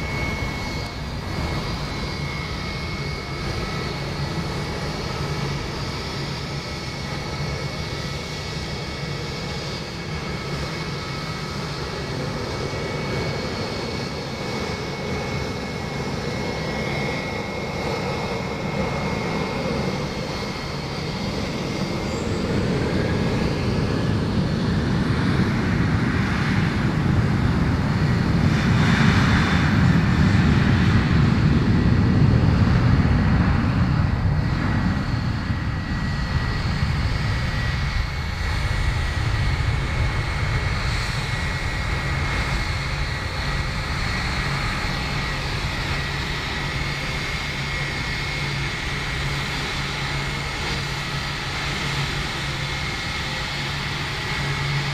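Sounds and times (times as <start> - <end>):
jet engine roar: 0.0 - 54.9
jet engines humming and whining: 0.0 - 54.9.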